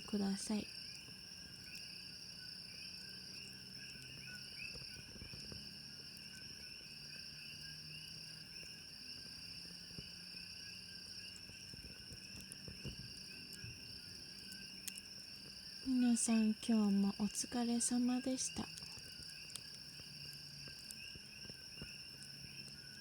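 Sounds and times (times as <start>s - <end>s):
faint campfire clicks: 0.0s - 23.0s
insects trilling and chirping: 0.0s - 23.0s.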